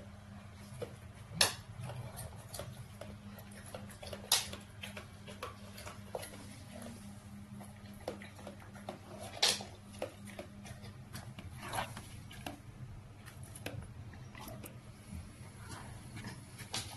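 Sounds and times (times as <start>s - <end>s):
dog sniffing and eating: 0.0s - 16.9s.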